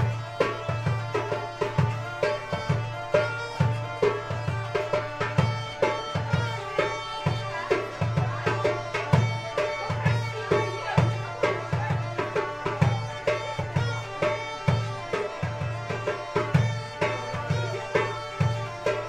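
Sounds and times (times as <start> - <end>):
bagpipes playing folk dance tune: 0.0 - 19.0
drum beating: 0.0 - 19.0.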